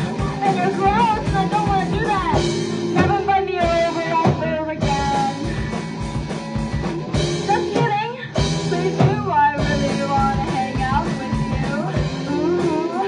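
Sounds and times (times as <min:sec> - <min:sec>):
person singing: 0:00.0 - 0:05.7, 0:07.6 - 0:13.0
drum kit: 0:00.0 - 0:13.0
guitar: 0:00.0 - 0:13.0.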